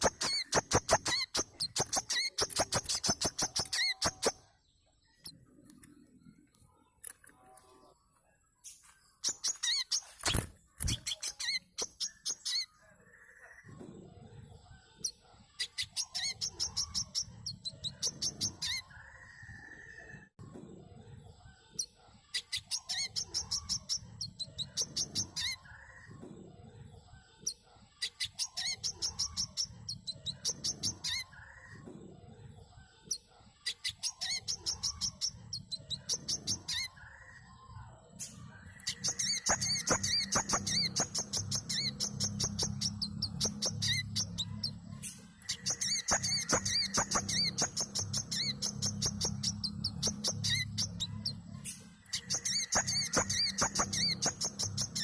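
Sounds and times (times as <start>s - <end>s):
bird high-pitched chirping song: 0.0s - 20.3s, 21.0s - 55.0s
fainter background calls: 0.0s - 55.0s.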